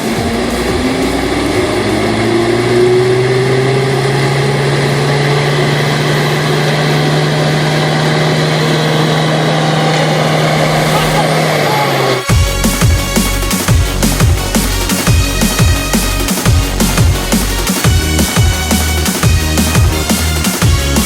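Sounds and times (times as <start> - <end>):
tractor engine hum: 0.0 - 21.0.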